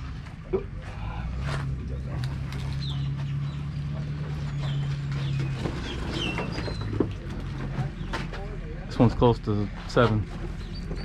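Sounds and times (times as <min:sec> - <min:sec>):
birds chirping: 0:00.9 - 0:09.1, 0:10.4 - 0:11.0.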